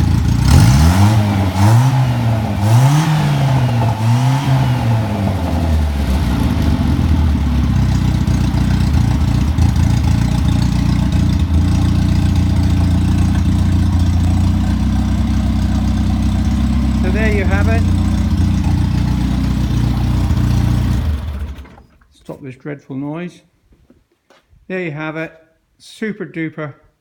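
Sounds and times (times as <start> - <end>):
car engine revving and idling: 0.0 - 21.8.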